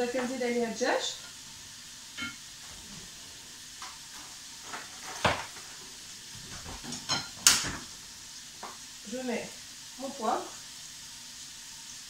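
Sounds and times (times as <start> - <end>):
chicken sizzling in pan: 0.0 - 12.0.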